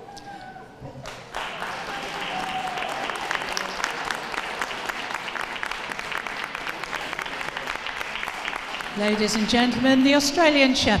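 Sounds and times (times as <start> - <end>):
audience applauding: 1.0 - 10.7.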